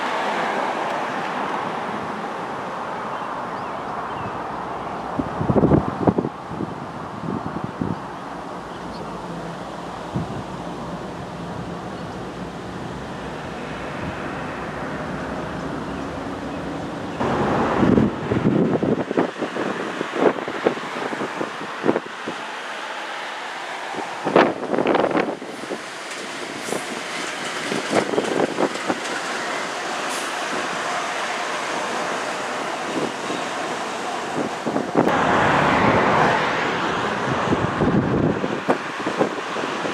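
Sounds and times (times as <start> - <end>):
locomotive engines rumbling: 0.0 - 39.9
rush of noise: 4.0 - 39.9.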